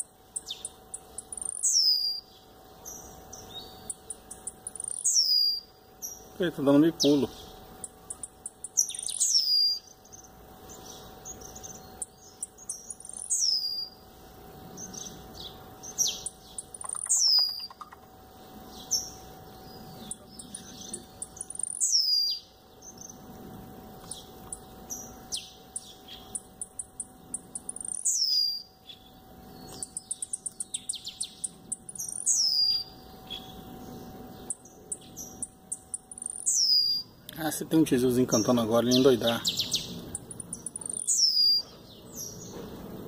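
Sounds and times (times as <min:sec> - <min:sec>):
bird singing short song: 0:00.0 - 0:14.0, 0:14.7 - 0:18.0, 0:18.7 - 0:23.2, 0:24.0 - 0:43.0.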